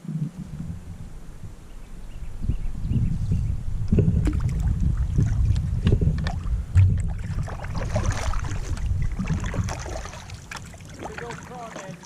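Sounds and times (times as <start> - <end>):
water splashing: 0.0 - 12.0
wind buffeting microphone: 0.0 - 12.0.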